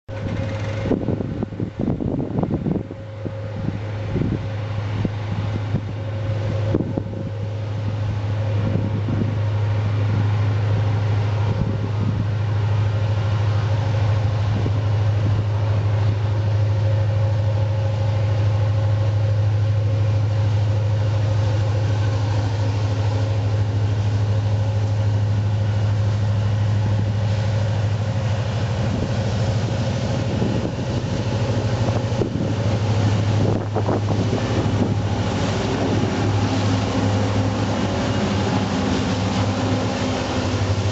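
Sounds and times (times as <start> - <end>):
diesel locomotives running by: 0.0 - 40.9.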